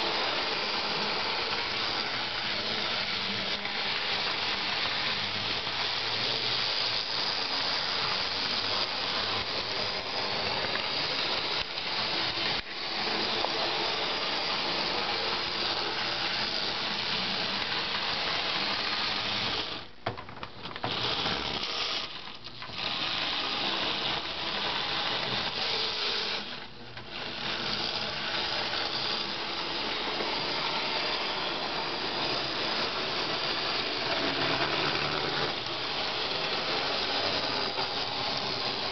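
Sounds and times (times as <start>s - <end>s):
model train motor whirring: 0.0s - 19.9s, 20.7s - 38.9s.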